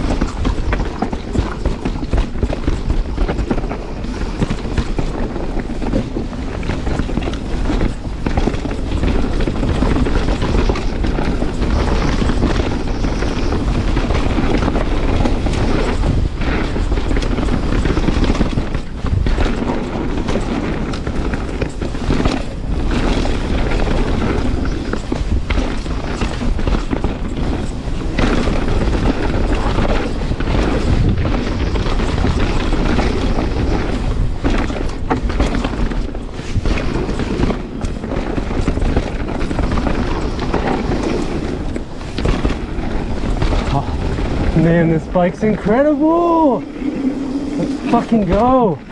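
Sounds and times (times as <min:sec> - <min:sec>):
bike rattling and thumping: 0:00.0 - 0:48.9
bike tyre roar: 0:00.0 - 0:48.9
wind buffeting microphone: 0:00.0 - 0:48.9.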